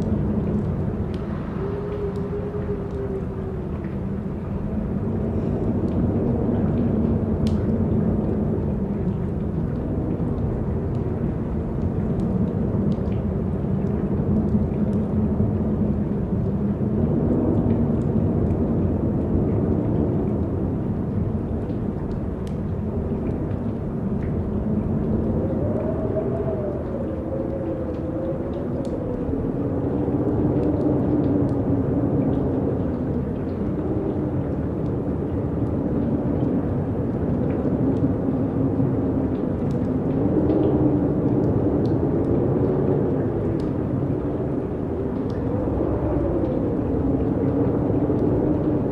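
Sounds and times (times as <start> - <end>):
faint light ticks: 0.0 - 4.8, 5.4 - 48.9
low rumbling wind: 0.0 - 48.9.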